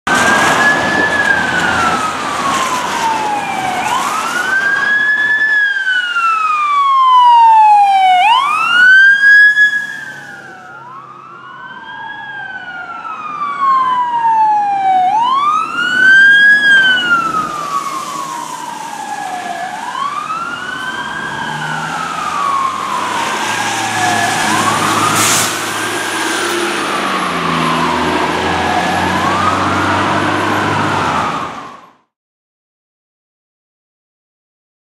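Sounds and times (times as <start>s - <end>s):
fire truck sirens wailing: 0.1s - 32.1s.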